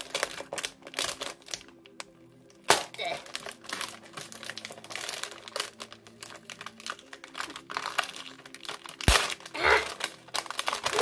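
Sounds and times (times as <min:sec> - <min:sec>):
packaging crinkling: 0:00.0 - 0:11.0
packaging snapping: 0:00.0 - 0:11.0.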